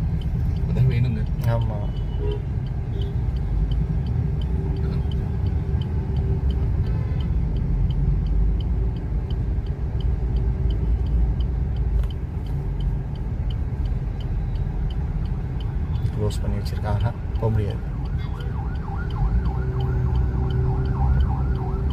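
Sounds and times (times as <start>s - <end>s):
car interior road and engine rumble: 0.0s - 21.9s
light regular ticking: 0.0s - 21.9s.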